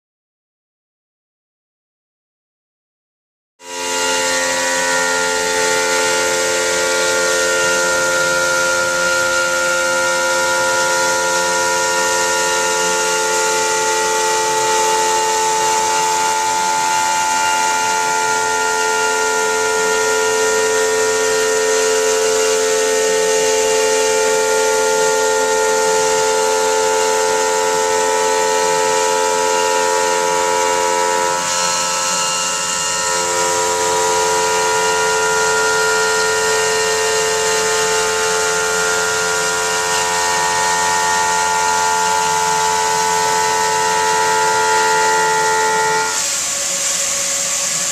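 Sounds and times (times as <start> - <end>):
stone router whining: 3.6 - 47.9.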